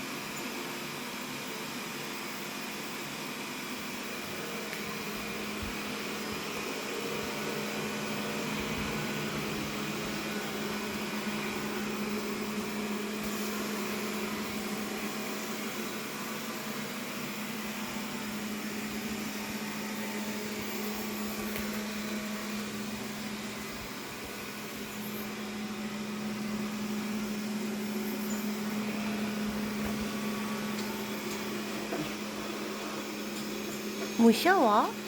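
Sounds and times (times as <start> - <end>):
robot vacuum motor hum: 3.5 - 35.0.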